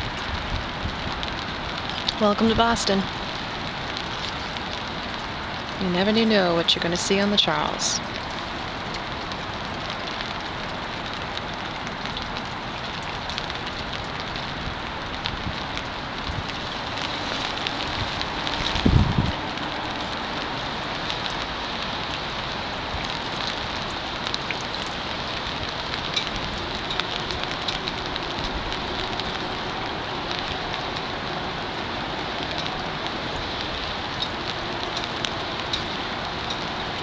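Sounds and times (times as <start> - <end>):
raindrop ticks: 0.0 - 37.0
steady rain falling: 0.0 - 37.0.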